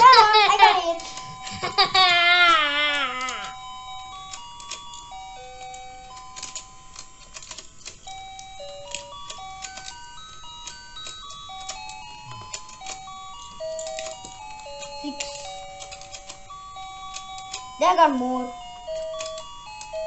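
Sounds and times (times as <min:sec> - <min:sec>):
toy pond motor running: 0:00.0 - 0:20.0.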